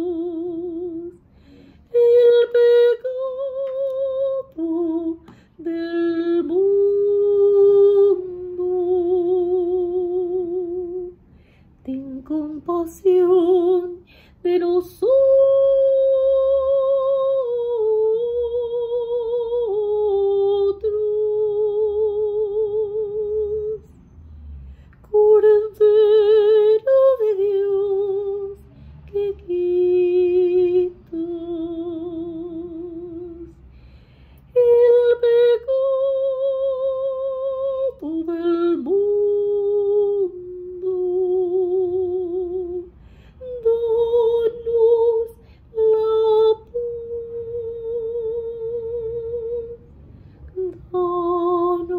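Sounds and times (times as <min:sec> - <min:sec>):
woman singing classically: 0:00.0 - 0:01.3, 0:01.9 - 0:11.2, 0:11.8 - 0:24.0, 0:25.0 - 0:33.7, 0:34.5 - 0:49.9, 0:50.5 - 0:51.9.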